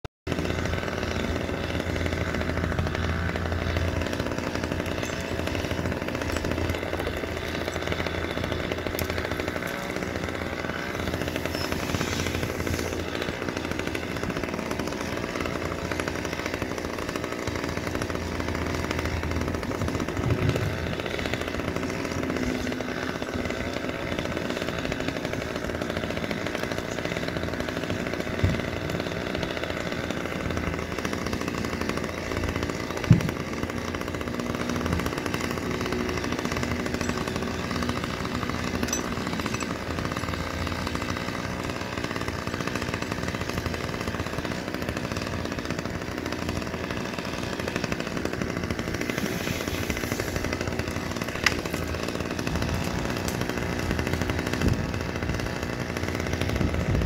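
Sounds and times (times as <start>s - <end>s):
chainsaw running: 0.3s - 57.0s.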